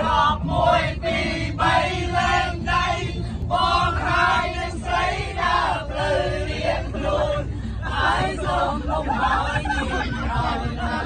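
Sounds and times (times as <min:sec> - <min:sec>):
bus rumble: 0:00.0 - 0:11.0
men singing in chorus: 0:00.0 - 0:11.0.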